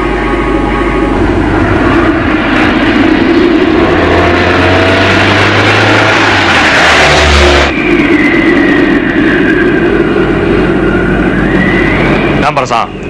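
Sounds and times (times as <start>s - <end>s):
car engine drone: 0.0s - 13.0s
thin wavering tone: 0.0s - 13.0s
wind rushing: 0.3s - 13.0s.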